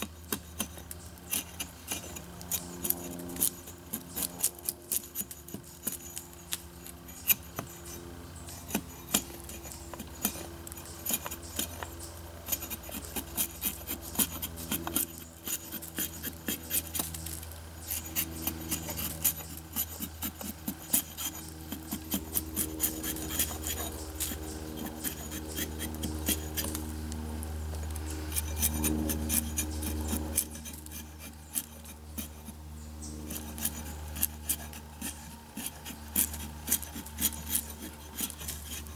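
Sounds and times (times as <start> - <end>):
axe blade shaving wood: 0.0 - 26.9, 28.2 - 32.6, 33.3 - 38.9.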